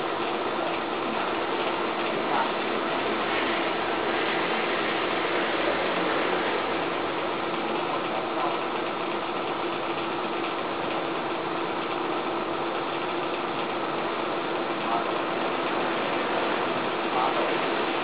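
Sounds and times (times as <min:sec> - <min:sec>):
motor-driven blower humming: 0:00.0 - 0:18.0.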